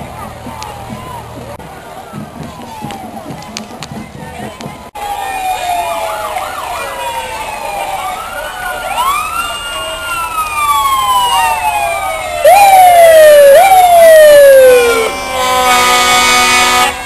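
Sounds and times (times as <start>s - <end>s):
loud nearby siren: 0.0s - 4.0s, 5.0s - 17.0s
fire truck sirens wailing: 0.0s - 17.0s.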